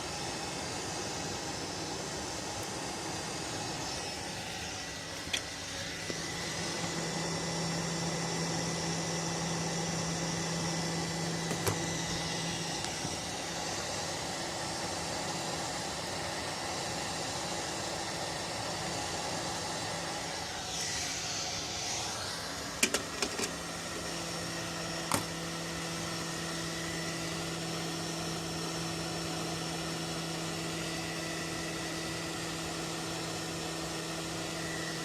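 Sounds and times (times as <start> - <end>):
electric fan whirring: 0.0 - 35.0.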